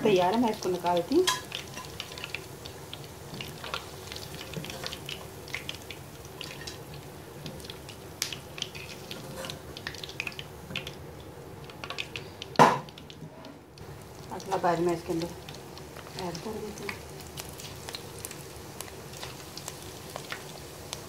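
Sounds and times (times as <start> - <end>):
hot oil crackling and popping: 0.0 - 21.0.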